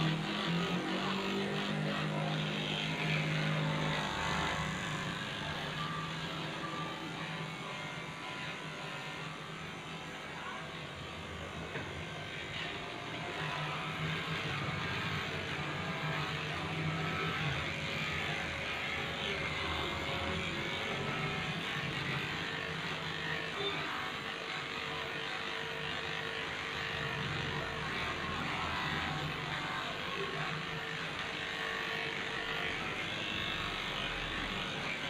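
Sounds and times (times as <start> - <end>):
electric pet clipper buzzing: 0.0 - 35.0.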